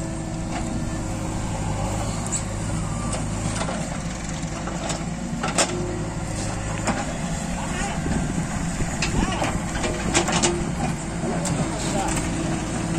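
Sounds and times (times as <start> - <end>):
backhoe loader engine running: 0.0 - 12.9
tractor diesel engine idling: 0.0 - 12.9.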